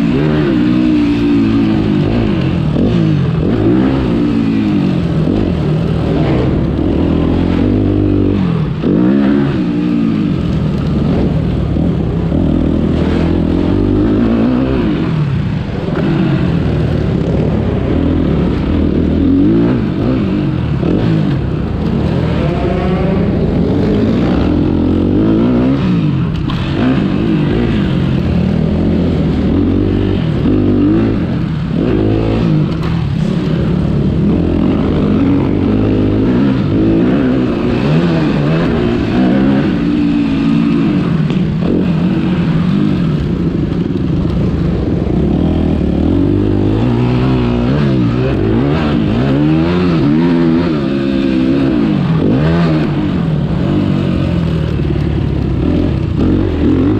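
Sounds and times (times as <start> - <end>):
motocross bike engine revving: 0.0 - 56.9.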